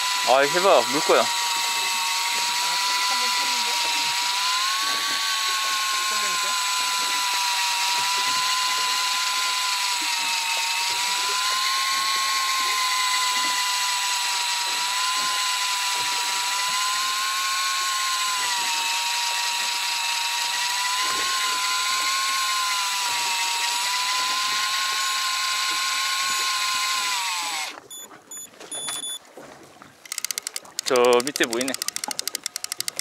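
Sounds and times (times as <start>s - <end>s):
electric reel motor whine: 0.0s - 28.1s.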